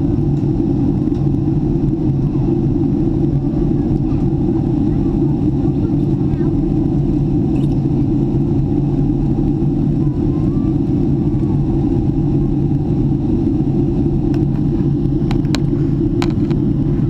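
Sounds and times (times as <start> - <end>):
faint constant hum: 0.0 - 17.0
jet engine and airflow drone: 0.0 - 17.0.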